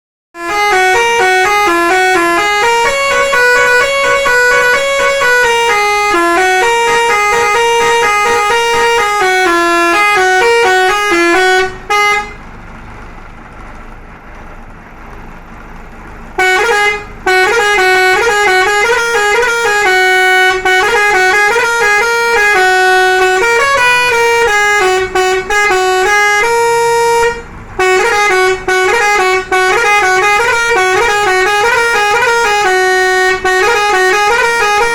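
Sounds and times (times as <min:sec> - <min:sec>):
bus melody horn playing tune: 0:00.4 - 0:13.0, 0:16.3 - 0:34.9.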